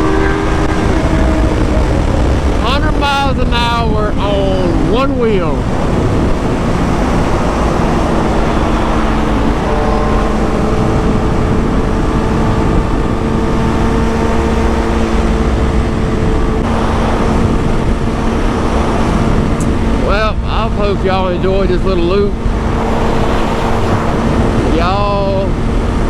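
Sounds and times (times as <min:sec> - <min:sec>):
motorcycle engine cruising: 0:00.0 - 0:26.0
wind rushing over microphone: 0:00.0 - 0:26.0.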